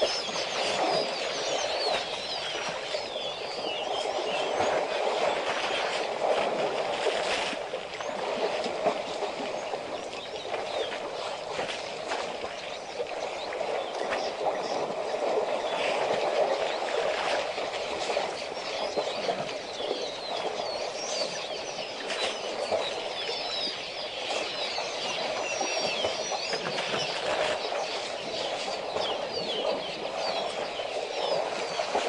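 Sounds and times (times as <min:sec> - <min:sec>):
small birds chirping: 0:00.0 - 0:05.1, 0:09.4 - 0:16.9, 0:18.1 - 0:32.0.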